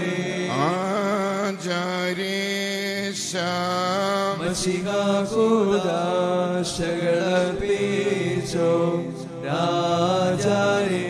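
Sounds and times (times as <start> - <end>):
man chanting a hymn: 0.0 - 11.0.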